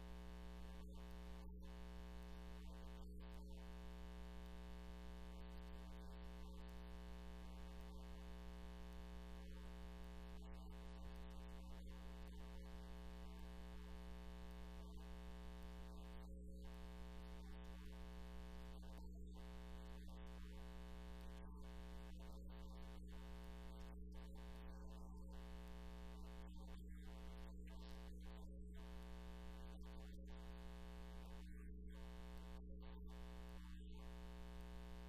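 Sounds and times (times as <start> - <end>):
electrical hum and buzz: 0.0 - 35.0.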